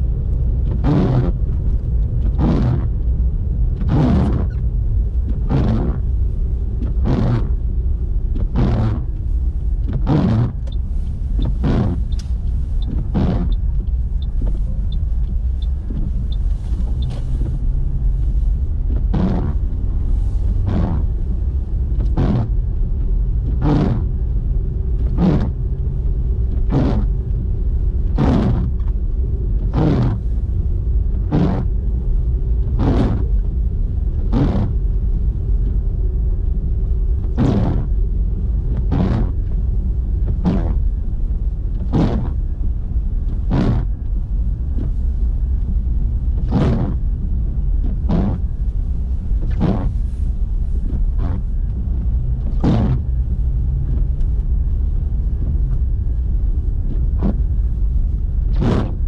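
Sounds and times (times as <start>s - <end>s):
car engine rumble: 0.0s - 59.0s
tyres on snowy road: 0.0s - 59.0s.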